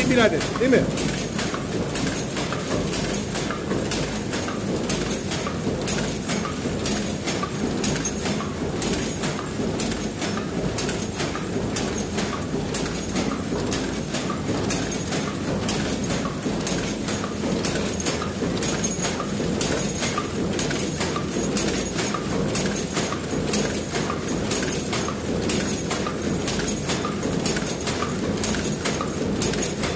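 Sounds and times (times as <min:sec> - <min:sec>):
machine humming and clacking: 0:00.0 - 0:29.9.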